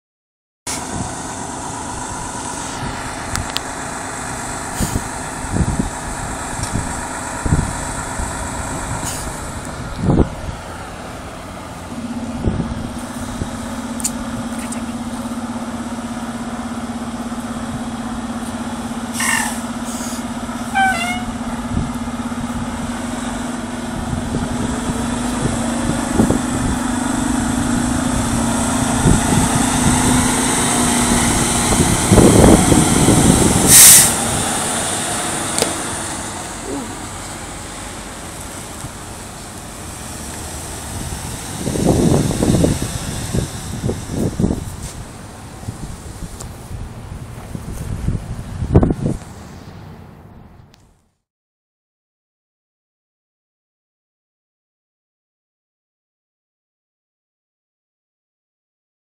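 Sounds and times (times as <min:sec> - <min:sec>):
fire engine diesel drone: 0:00.7 - 0:51.2.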